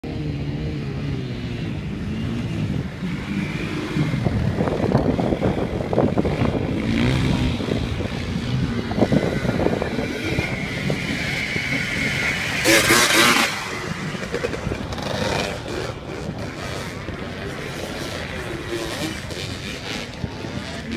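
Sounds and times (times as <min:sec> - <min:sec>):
dirt bike passing: 0:00.0 - 0:20.9
quad engine revving: 0:00.1 - 0:20.9.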